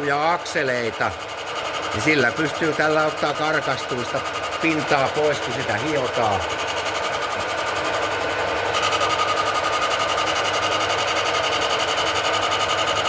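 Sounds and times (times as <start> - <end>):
grinder motor whine: 0.0 - 13.0
grinding hiss: 0.0 - 13.0.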